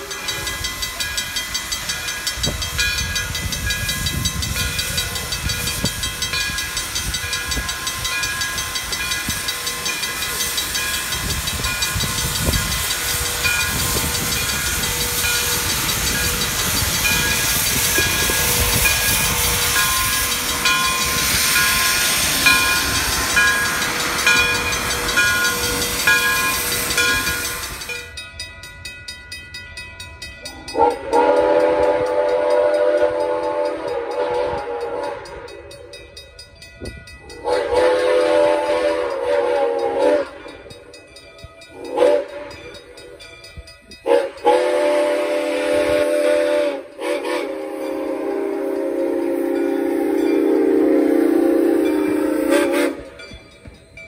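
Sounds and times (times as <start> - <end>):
steam hissing: 0.0 - 28.4, 36.9 - 54.0
steam locomotive exhaust chuffing: 0.0 - 54.0.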